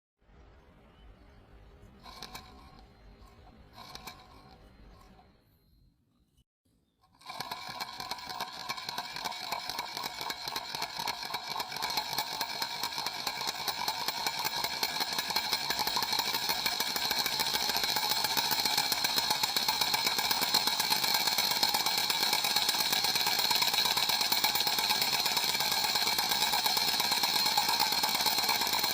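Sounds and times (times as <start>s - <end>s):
small motor buzzing rattle: 1.8s - 5.5s, 7.0s - 28.9s.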